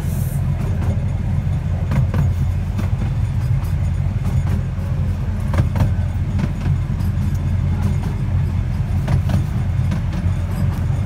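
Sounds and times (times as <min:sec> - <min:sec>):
carriage wheels rumbling: 0:00.0 - 0:11.0
wheels clicking on rail joints: 0:00.0 - 0:11.0.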